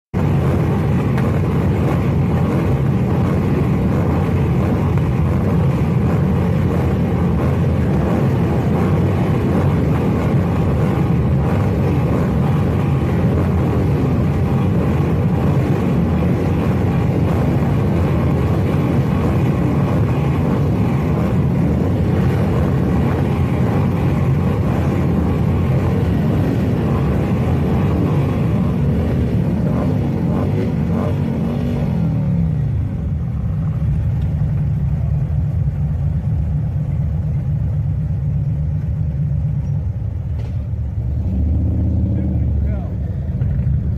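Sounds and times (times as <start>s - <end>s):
motorcycle engines revving: 0.2s - 43.9s.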